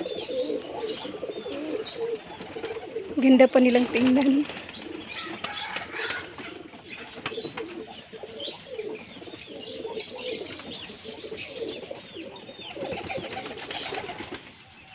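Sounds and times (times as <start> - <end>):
pigeons cooing: 0.0 - 14.7.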